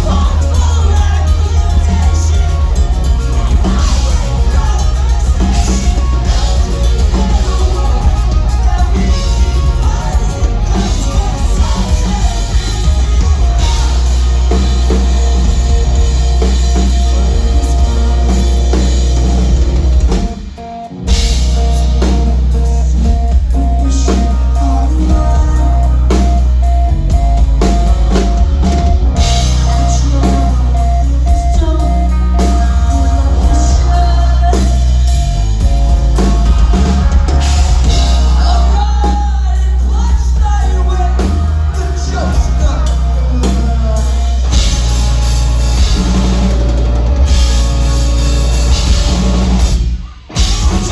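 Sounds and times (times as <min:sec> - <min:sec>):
person singing: 0:00.0 - 0:20.9, 0:21.5 - 0:50.9
drum kit: 0:00.0 - 0:50.9
guitars: 0:00.0 - 0:50.9
rock band playing: 0:00.0 - 0:50.9.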